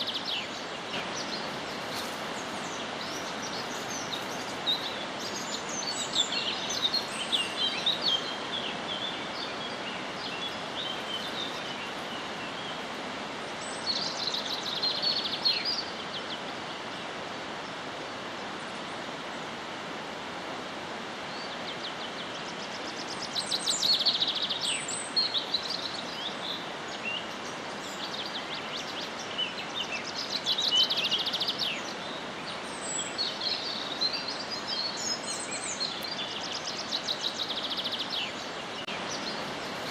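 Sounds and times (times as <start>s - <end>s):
outdoor background hiss: 0.0s - 39.9s
songbirds chirping and trilling: 0.0s - 39.9s.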